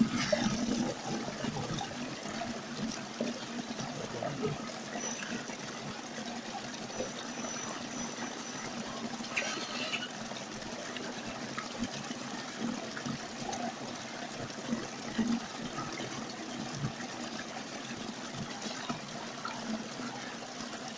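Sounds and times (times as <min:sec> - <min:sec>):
stream splashing over rocks: 0:00.0 - 0:20.9.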